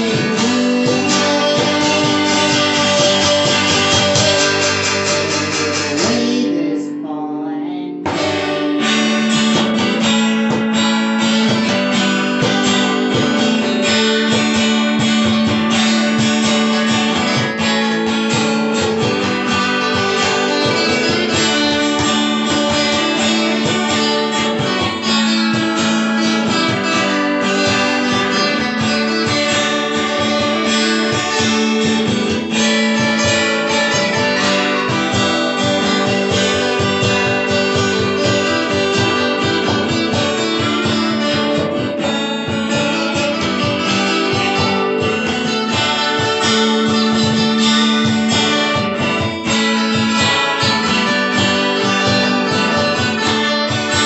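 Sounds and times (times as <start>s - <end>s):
box drum percussion: 0.0s - 6.6s, 8.0s - 54.0s
acoustic guitars strumming: 0.0s - 54.0s.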